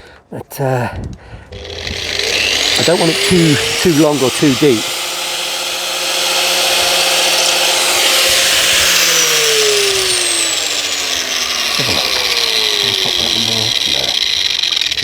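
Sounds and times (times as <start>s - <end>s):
angle grinder cutting: 1.5s - 15.0s.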